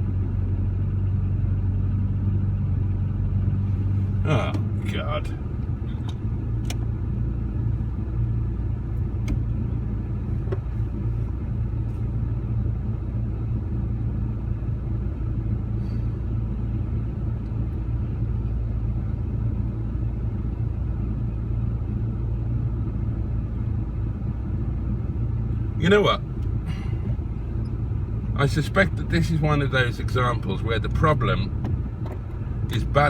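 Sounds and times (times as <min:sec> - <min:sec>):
engine running at low revs: 0:00.0 - 0:33.0.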